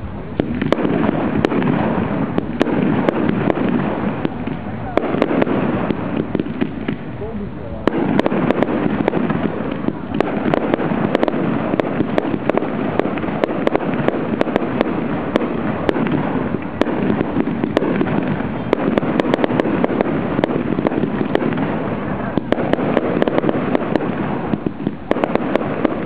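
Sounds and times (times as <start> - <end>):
fireworks crackling: 0.0 - 26.0
fireworks launches and bursts: 0.0 - 26.0.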